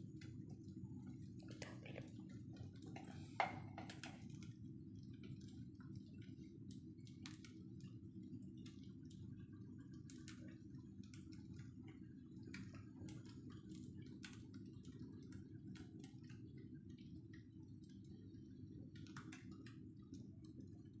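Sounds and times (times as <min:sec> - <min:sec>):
firewood crackling in stove: 0:00.0 - 0:21.0.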